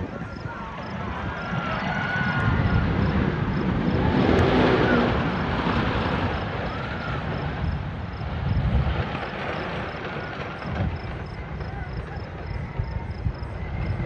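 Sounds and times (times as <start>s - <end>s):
roller coaster rumbling and clattering: 0.0s - 14.0s.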